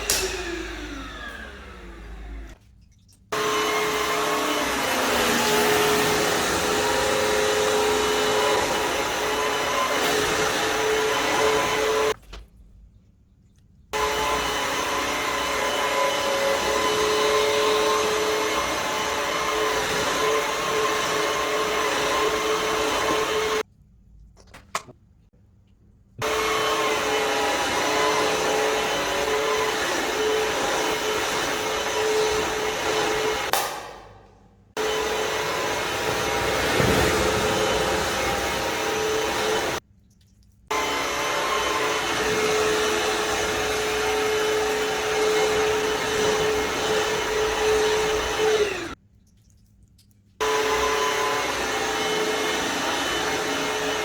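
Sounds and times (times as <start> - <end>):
vacuum cleaner running: 0.0 - 2.6, 3.4 - 12.2, 14.0 - 23.6, 26.2 - 34.2, 34.8 - 39.8, 40.7 - 49.0, 50.4 - 54.0.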